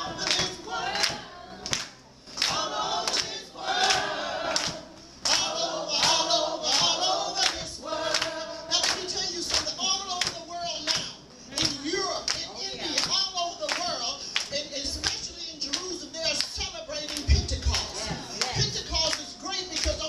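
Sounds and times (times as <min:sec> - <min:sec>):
congregation singing: 0:00.0 - 0:20.0
hand claps: 0:00.0 - 0:20.0.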